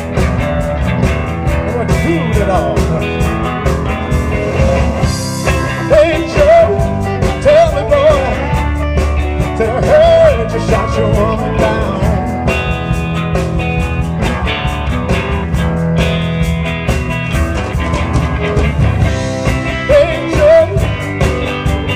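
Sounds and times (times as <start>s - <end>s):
electric blues band playing: 0.0s - 21.9s
electric guitar lead: 0.0s - 21.9s.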